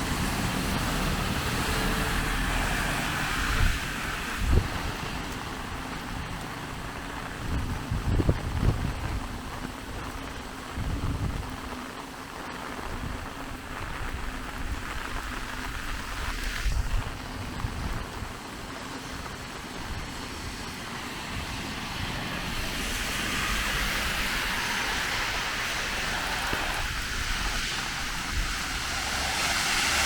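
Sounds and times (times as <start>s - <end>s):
heavy rain on a street: 0.0s - 30.0s
wind rumble on microphone: 0.0s - 30.0s.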